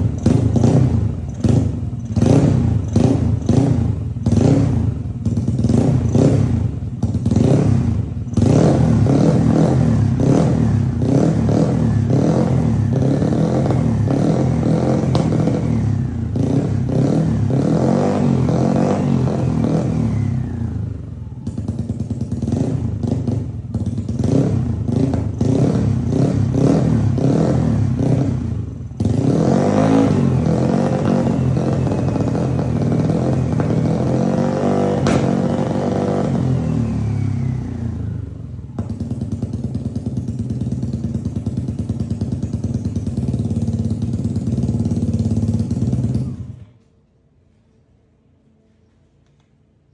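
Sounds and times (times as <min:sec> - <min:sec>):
scooter engine revving: 0:00.0 - 0:46.6.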